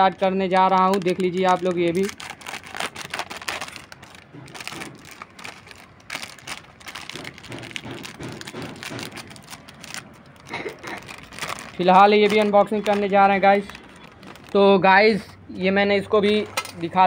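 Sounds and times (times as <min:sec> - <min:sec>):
snack packet crinkling: 0:00.0 - 0:14.8.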